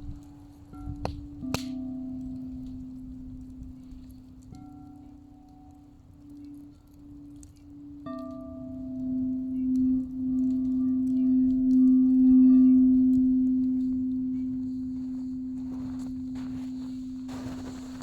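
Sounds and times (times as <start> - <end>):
higher singing bowl tone: 0.0 - 17.8.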